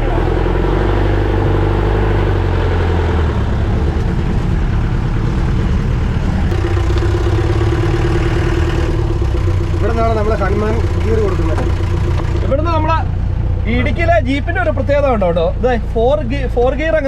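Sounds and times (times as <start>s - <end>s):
jeep engine running under load: 0.0s - 17.0s.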